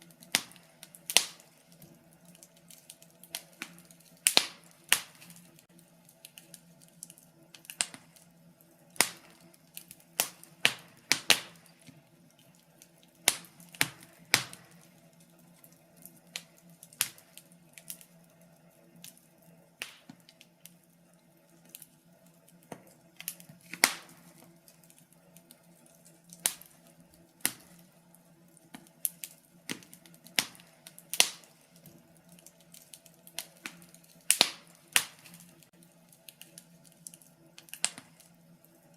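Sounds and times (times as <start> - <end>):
faint steady low hum: 0.0 - 38.9
wood fire crackling: 0.0 - 38.9.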